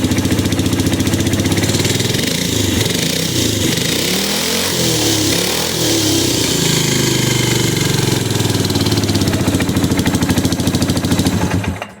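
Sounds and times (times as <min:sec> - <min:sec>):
engine revving and idling unevenly: 0:00.0 - 0:12.0.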